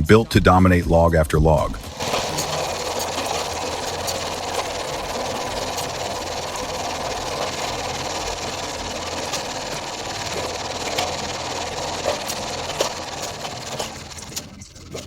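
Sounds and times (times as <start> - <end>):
log splitter engine running: 1.6 - 15.0.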